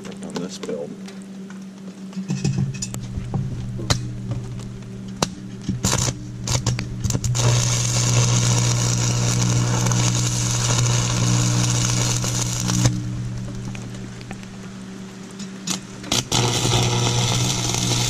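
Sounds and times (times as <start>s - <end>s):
arc welding crackling hiss: 0.0s - 18.0s
low hum: 0.0s - 18.0s.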